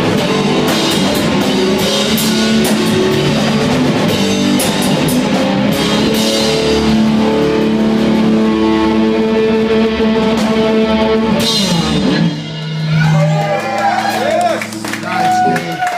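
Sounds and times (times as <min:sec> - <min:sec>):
live rock band playing: 0:00.0 - 0:15.9.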